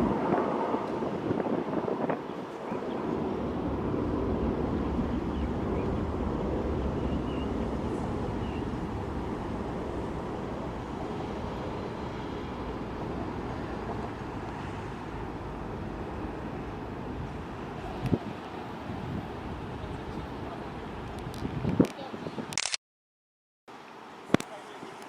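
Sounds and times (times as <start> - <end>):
jet engine rushing: 0.0 - 20.6.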